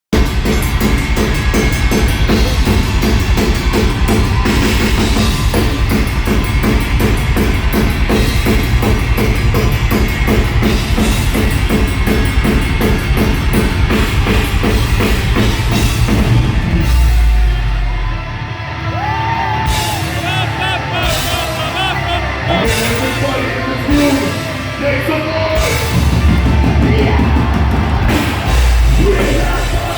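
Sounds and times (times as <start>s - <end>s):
fast drumming with cymbals: 0.1s - 17.9s, 19.7s - 29.9s
distorted guitars: 0.1s - 29.9s.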